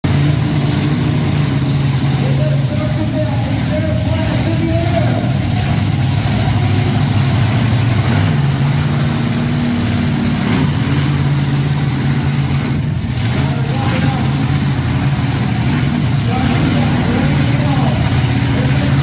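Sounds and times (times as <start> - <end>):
truck engine running at low revs: 0.0 - 19.0.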